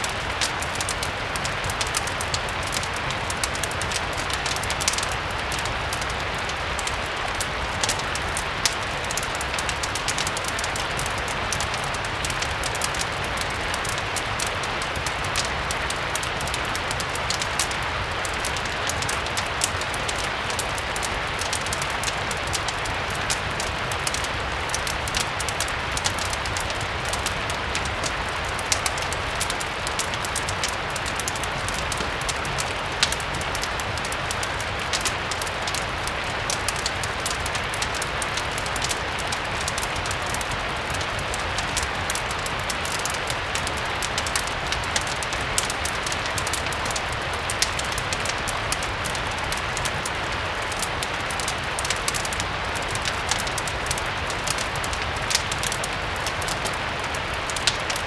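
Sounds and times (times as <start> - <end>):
fireplace crackling: 0.0 - 58.0
steady rain: 0.0 - 58.0.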